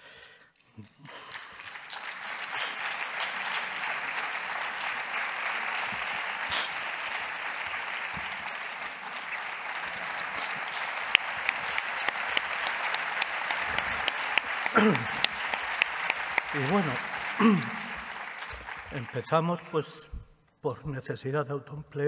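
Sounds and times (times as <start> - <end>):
audience applauding: 0.6 - 20.1.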